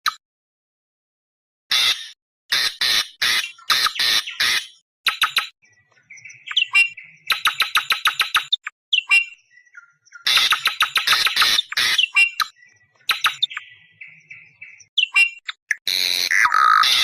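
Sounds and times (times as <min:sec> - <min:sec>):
bird chattering call: 0:01.7 - 0:17.0.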